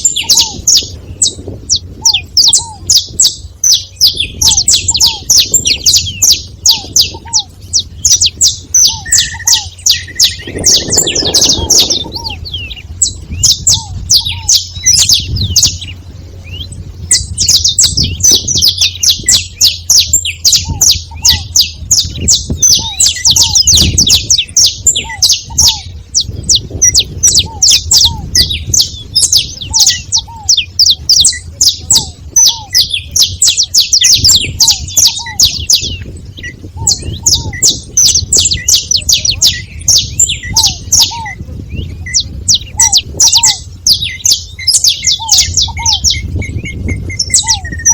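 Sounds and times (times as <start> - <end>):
finches chirping and singing: 0.0 - 47.9.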